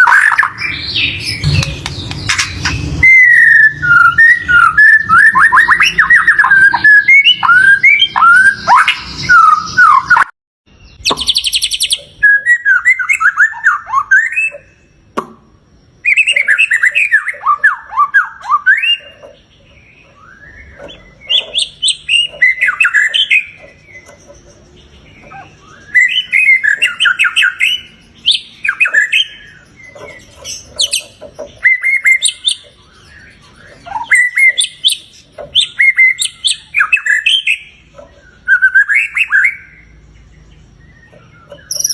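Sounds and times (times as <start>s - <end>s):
bird song whistles and twittering: 0.0s - 41.9s.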